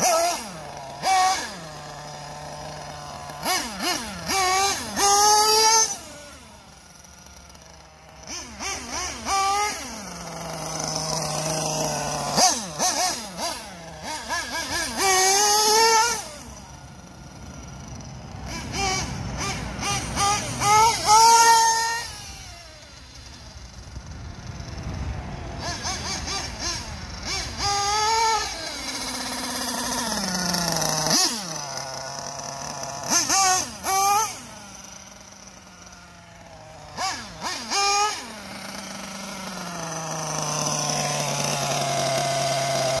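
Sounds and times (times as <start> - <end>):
model car engine revving: 0.0 - 43.0.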